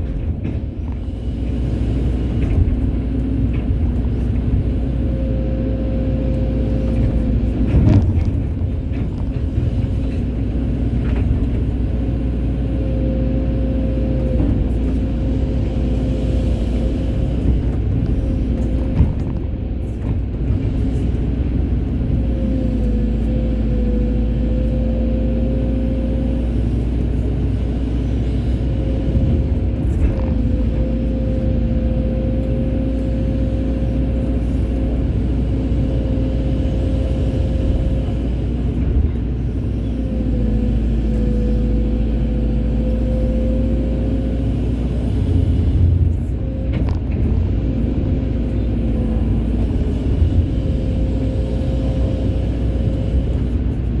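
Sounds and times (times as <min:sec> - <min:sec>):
excavator diesel engine rumbling: 0:00.0 - 0:54.0
hydraulic whine: 0:00.0 - 0:54.0.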